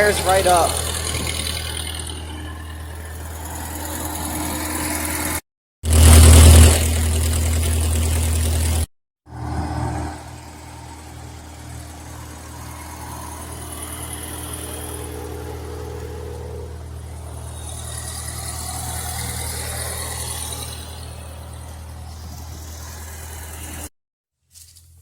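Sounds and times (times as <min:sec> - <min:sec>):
small engine idling: 0:00.0 - 0:23.9.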